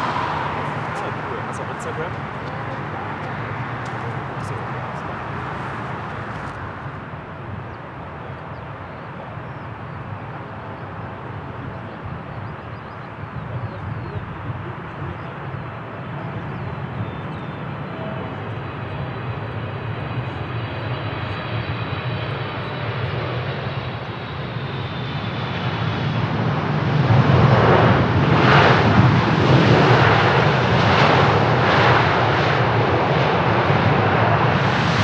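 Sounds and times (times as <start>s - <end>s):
jet airliner engines rushing: 0.0s - 35.0s.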